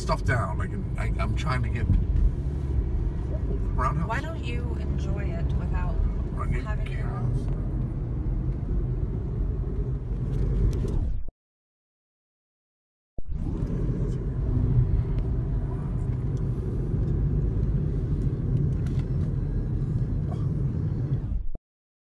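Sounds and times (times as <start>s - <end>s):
road and engine noise inside car: 0.0s - 11.2s, 13.2s - 21.6s.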